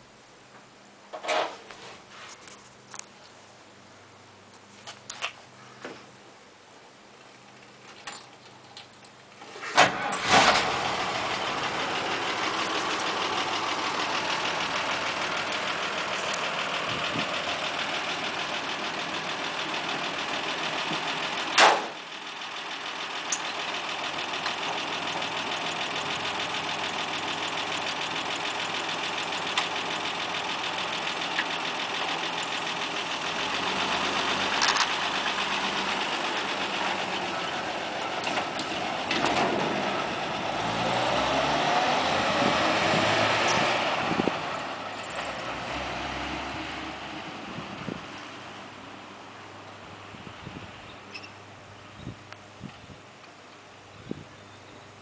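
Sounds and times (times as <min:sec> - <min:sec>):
engine cranking and idling: 0:07.3 - 0:51.6.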